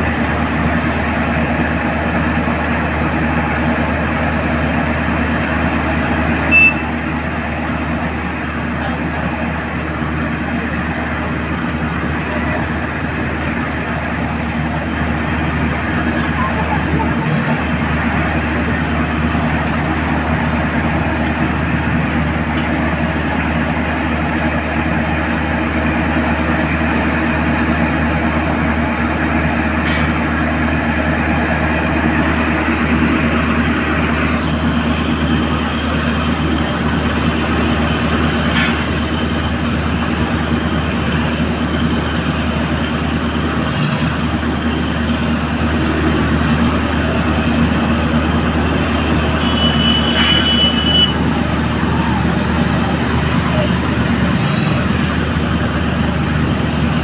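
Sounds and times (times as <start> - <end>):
crane engine humming: 0.0 - 57.0.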